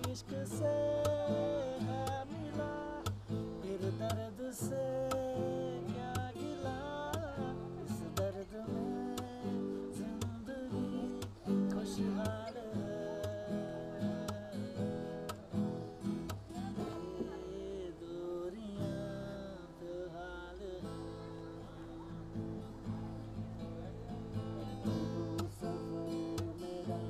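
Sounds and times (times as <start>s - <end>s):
person singing: 0.0s - 23.2s, 24.3s - 27.0s
acoustic guitar strummed and picked: 0.0s - 27.0s.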